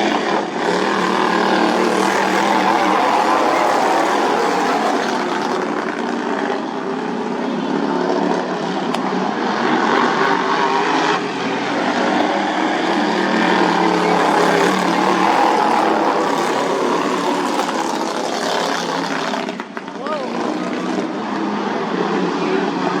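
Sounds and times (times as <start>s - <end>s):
lawnmower engines running hard: 0.0s - 23.0s.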